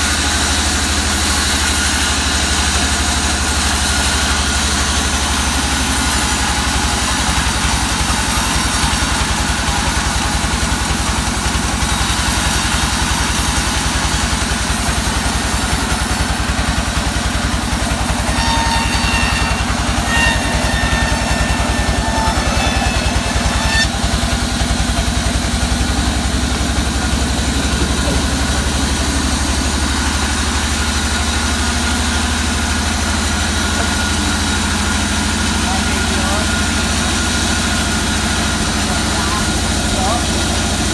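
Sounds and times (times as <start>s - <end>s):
band saw cutting log: 0.0s - 40.9s.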